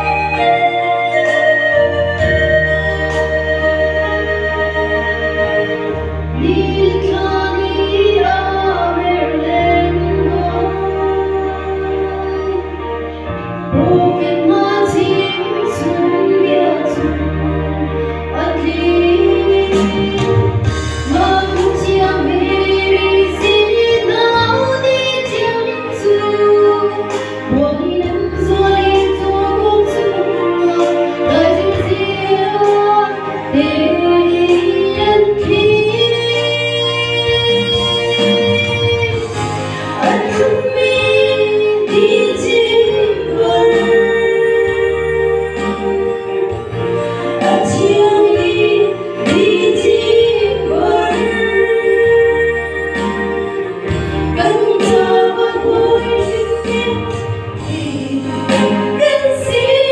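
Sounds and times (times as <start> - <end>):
sustained instrumental accompaniment: 0.0 - 59.9
woman singing into microphone: 0.0 - 59.9.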